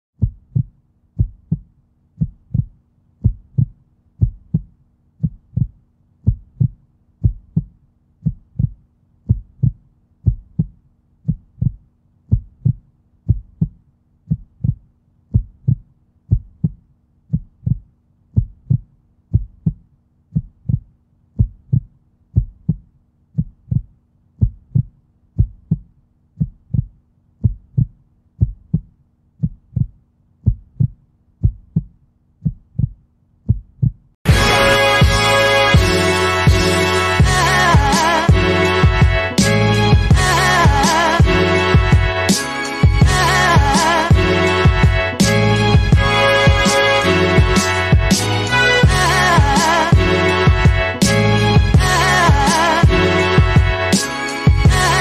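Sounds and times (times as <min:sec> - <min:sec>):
deep heartbeat-like bass thumps: 0:00.2 - 0:19.8, 0:20.4 - 0:55.0.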